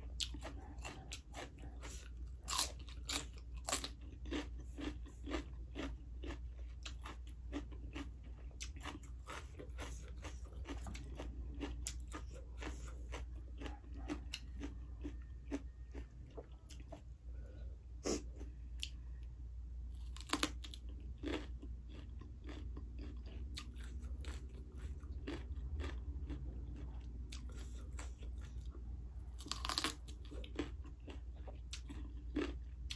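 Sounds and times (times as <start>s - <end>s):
crunching raw vegetables: 0.0s - 17.2s, 19.9s - 32.9s.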